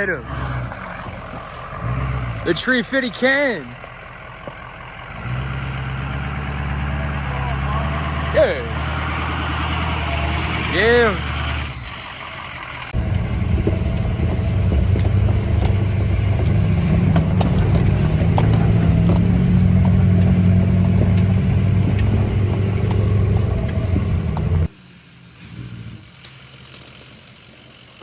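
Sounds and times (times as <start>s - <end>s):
vehicle engine running under load: 0.0s - 28.0s.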